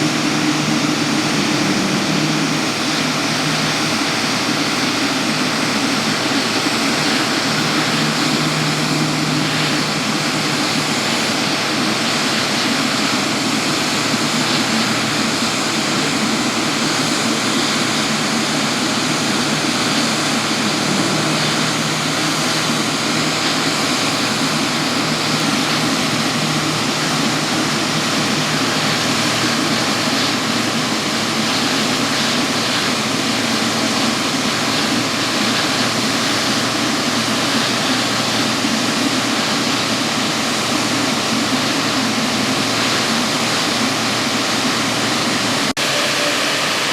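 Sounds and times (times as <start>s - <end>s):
jet engines rushing: 0.0s - 46.9s.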